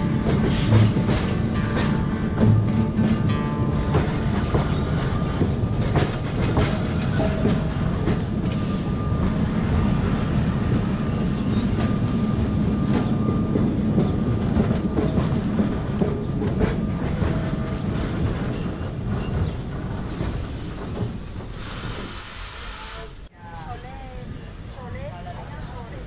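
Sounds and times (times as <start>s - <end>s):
rail clicks and clacks: 0.0s - 23.3s
tram wheels rumbling on rails: 0.0s - 26.0s.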